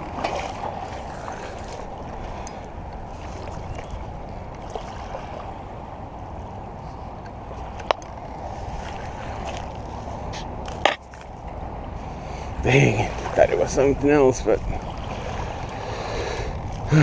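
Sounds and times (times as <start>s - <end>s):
shallow water at shoreline: 0.0s - 17.0s
wind: 0.0s - 17.0s.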